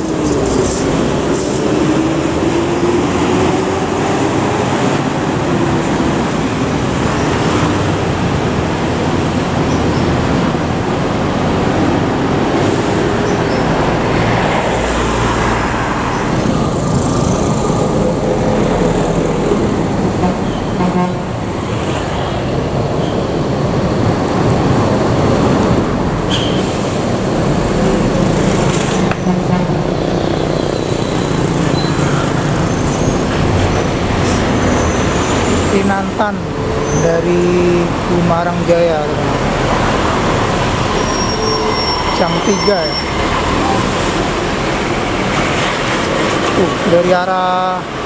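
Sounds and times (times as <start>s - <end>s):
roar of passing traffic: 0.0s - 48.0s.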